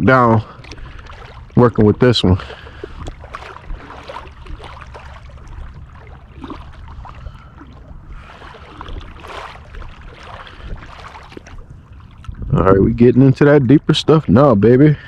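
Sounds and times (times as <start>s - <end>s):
low rumble of current: 0.0s - 15.0s
water sloshing around waders: 0.0s - 15.0s.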